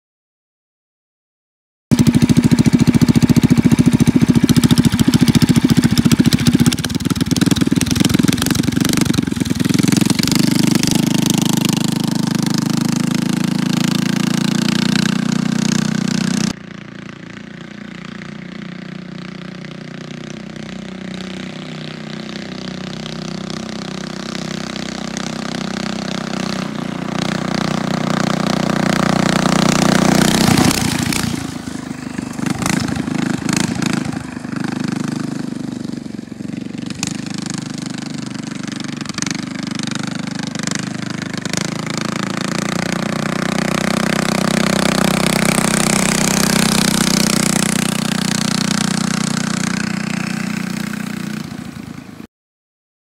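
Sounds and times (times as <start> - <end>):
mini bike engine revving: 1.9 - 52.3.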